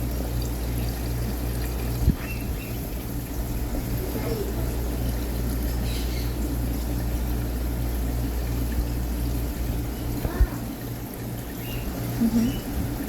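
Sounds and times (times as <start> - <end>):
pulsing low pump hum: 0.0 - 13.0
water trickling: 0.0 - 13.0.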